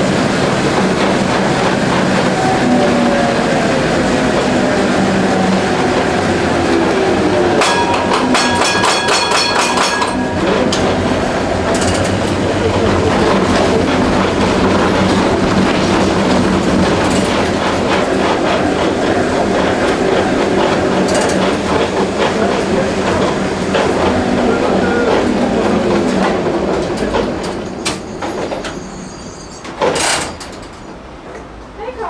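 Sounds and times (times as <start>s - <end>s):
tram rumbling on rails: 0.0s - 32.0s.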